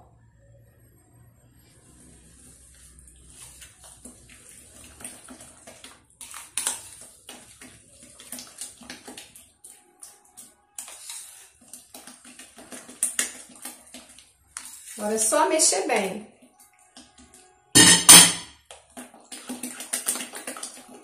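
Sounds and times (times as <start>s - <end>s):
hand squelching wet batter: 1.7s - 17.3s, 18.6s - 21.0s.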